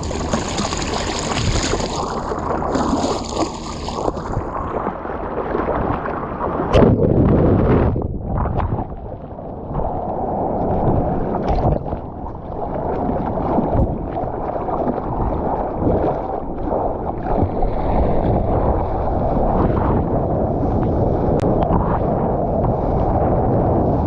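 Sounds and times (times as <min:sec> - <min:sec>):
sea water sloshing and splashing: 0:00.0 - 0:24.0
wind rumbling on microphone: 0:00.0 - 0:24.0.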